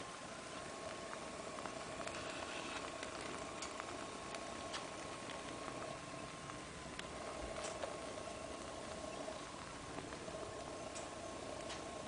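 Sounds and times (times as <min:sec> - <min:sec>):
faint steady hum: 0:00.0 - 0:12.0
mushrooms sizzling on a grill: 0:00.0 - 0:12.0.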